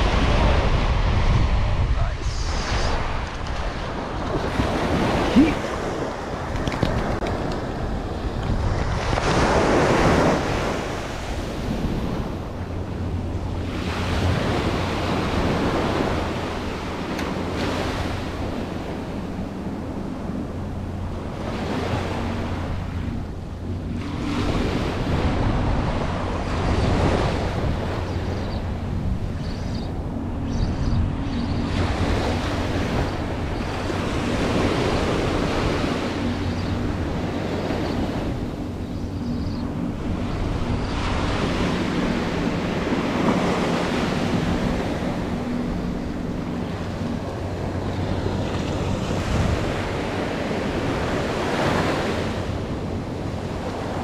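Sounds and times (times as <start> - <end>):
ocean surf breaking on beach: 0.0 - 54.0
wind on microphone: 0.0 - 54.0.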